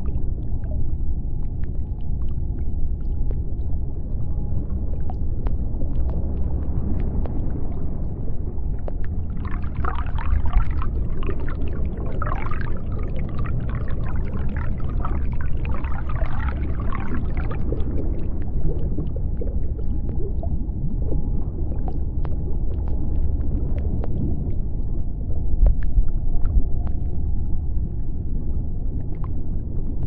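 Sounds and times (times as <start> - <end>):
deep underwater rumble: 0.0 - 30.0.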